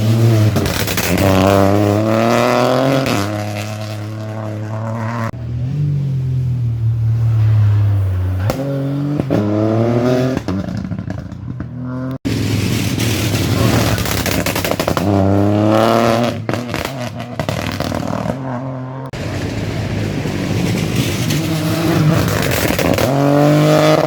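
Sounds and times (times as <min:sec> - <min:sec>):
exhaust cracks: 0:00.0 - 0:05.4, 0:06.8 - 0:24.0
rally car engine at full throttle: 0:00.0 - 0:24.0.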